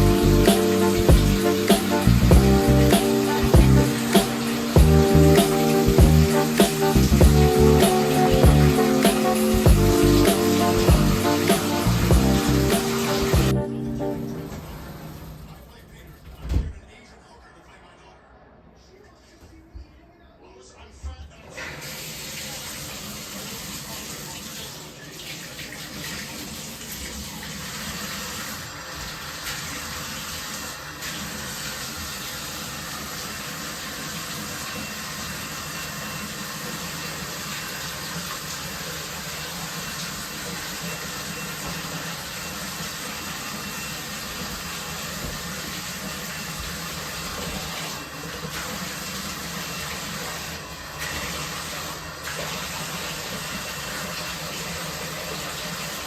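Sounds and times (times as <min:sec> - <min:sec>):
water running from a tap: 0:00.0 - 0:13.6, 0:21.6 - 0:56.0.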